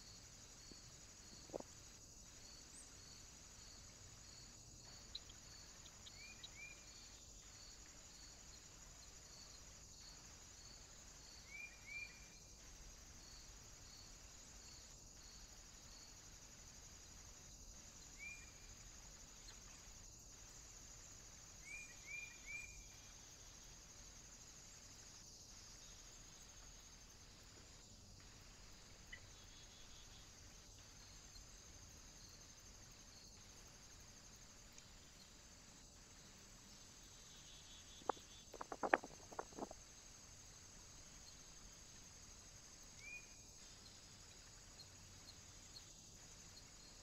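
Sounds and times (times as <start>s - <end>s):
high insect hiss: 0.0s - 47.0s.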